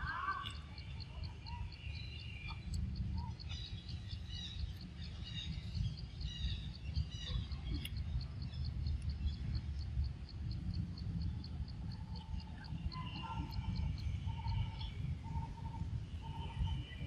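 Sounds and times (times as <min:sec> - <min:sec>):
birds chirping: 0:00.0 - 0:17.0
insect chirping: 0:00.0 - 0:17.0
low rumble: 0:00.0 - 0:17.0.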